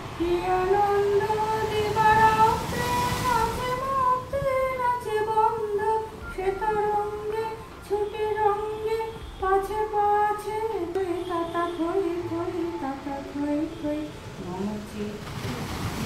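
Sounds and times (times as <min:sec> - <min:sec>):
woman singing slow melody: 0:00.0 - 0:15.6.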